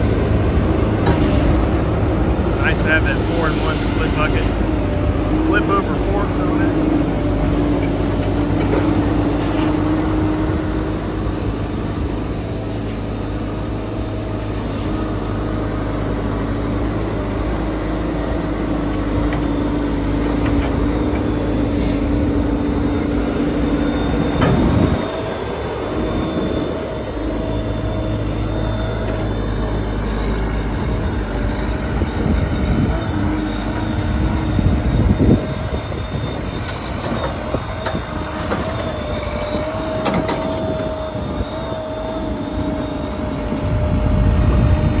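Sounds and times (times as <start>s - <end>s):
diesel engine running: 0.0s - 45.0s
thin high whine: 0.0s - 45.0s.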